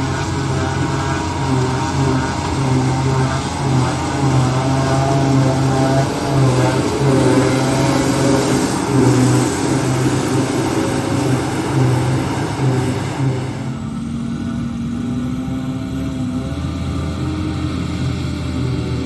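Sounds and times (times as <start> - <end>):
forage harvester droning: 0.0 - 19.0
tractor running: 0.0 - 19.0
whining machine tones: 0.0 - 19.0.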